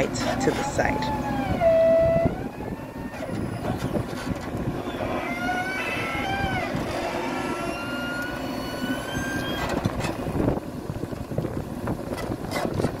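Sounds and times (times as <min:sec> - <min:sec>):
diesel engine rumble with whine: 0:00.0 - 0:13.0.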